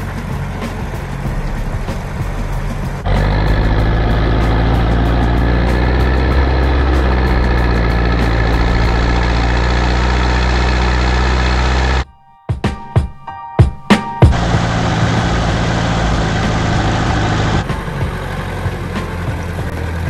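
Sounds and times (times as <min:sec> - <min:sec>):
tractor diesel engine running: 0:00.0 - 0:12.1, 0:14.3 - 0:20.0.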